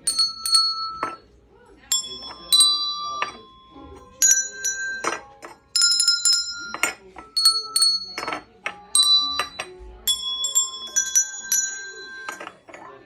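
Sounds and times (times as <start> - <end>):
handbells ringing: 0.0 - 1.3, 1.9 - 12.9.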